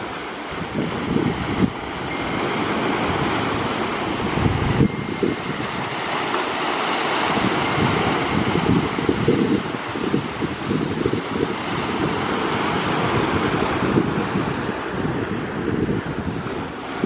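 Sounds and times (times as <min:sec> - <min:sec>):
sea waves splashing over rocks: 0:00.0 - 0:17.0
wind buffeting microphone: 0:00.0 - 0:17.0.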